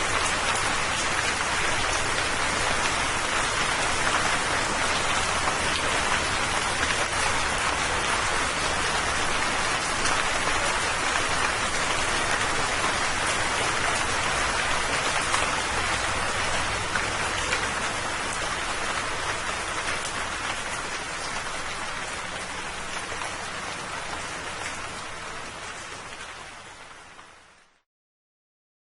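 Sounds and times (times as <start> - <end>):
steady rain falling: 0.0 - 27.8.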